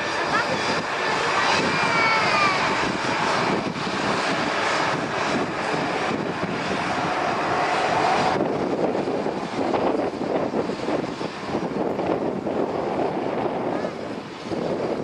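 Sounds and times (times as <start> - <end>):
airliner engines roaring: 0.0 - 15.0
high engine whine: 0.0 - 15.0.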